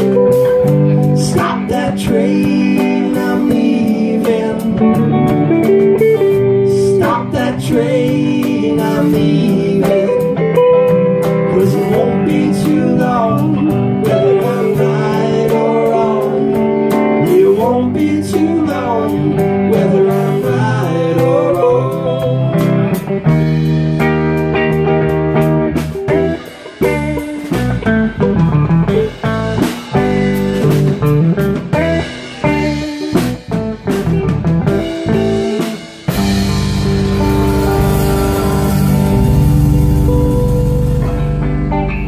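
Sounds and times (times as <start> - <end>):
drums: 0.0 - 42.0
electric guitar lead: 0.0 - 42.0
low accompaniment: 0.0 - 42.0.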